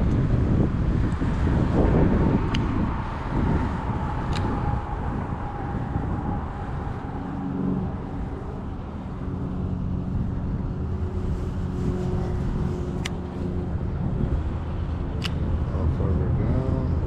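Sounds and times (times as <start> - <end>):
low steady hum: 0.0 - 17.0
wind rumble on microphone: 0.0 - 17.0.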